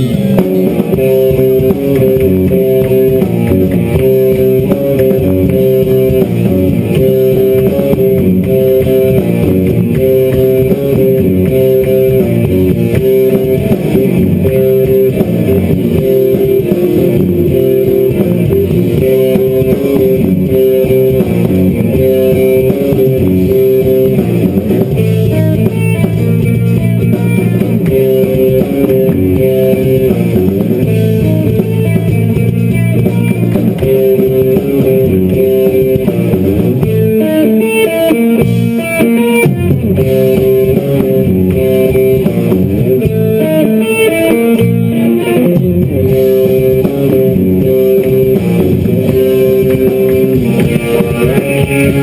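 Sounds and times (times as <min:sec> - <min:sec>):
bass: 0:00.0 - 0:52.0
plucked electric guitar: 0:00.0 - 0:52.0.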